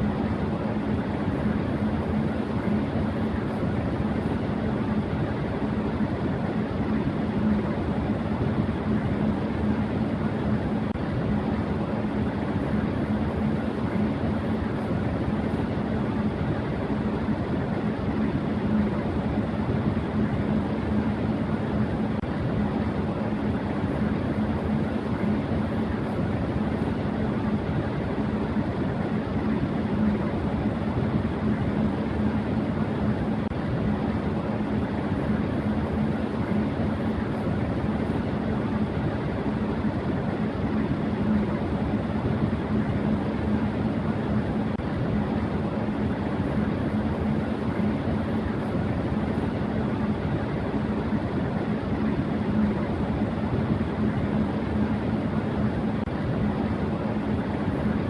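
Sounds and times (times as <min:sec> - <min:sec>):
electric fan rushing air: 0:00.0 - 0:58.0
faint motor hum: 0:00.0 - 0:58.0.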